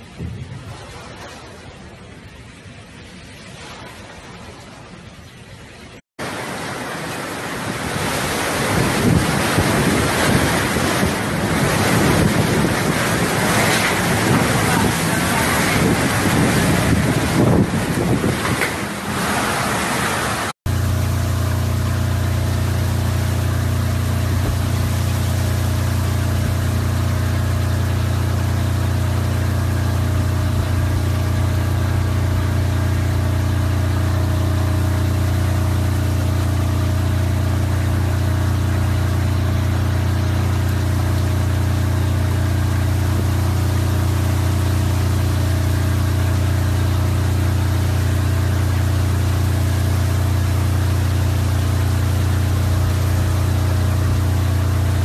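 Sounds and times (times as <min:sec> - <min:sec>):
low mechanical hum with hiss: 0:00.0 - 0:55.0.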